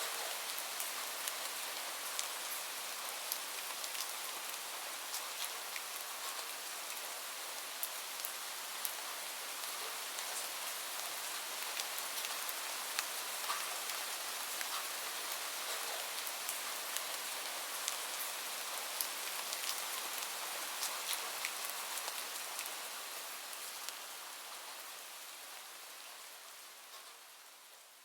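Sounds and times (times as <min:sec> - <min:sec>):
steady rain hiss: 0:00.0 - 0:28.0
raindrops ticking on a surface: 0:00.1 - 0:25.3, 0:26.8 - 0:27.4.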